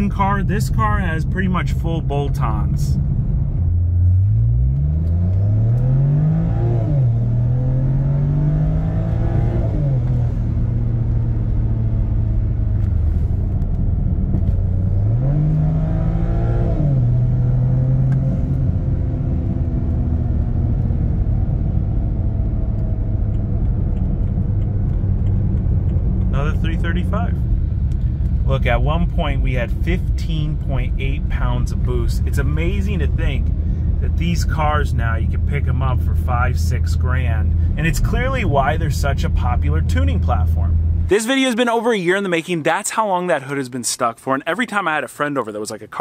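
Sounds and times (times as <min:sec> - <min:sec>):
car engine accelerating hard: 0:00.0 - 0:41.2.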